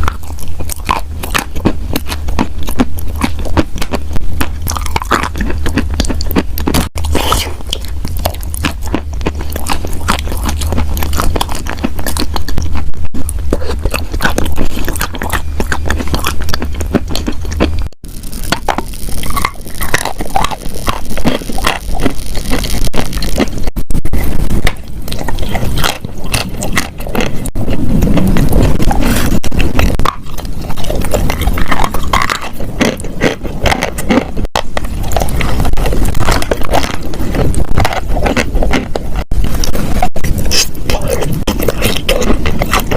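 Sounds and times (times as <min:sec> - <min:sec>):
crunching and chewing chalk: 0:00.0 - 0:42.9
low hum: 0:00.0 - 0:42.9.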